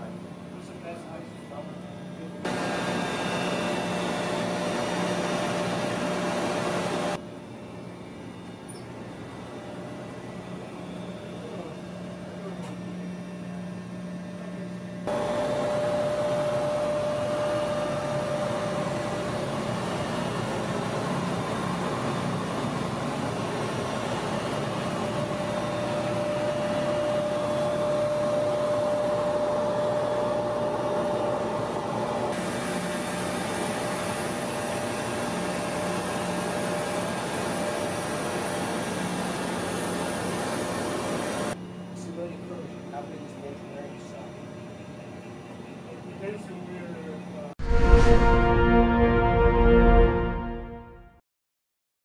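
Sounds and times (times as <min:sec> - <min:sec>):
engine room machinery noise: 0:00.0 - 0:48.9
steady machine whine: 0:00.0 - 0:50.5.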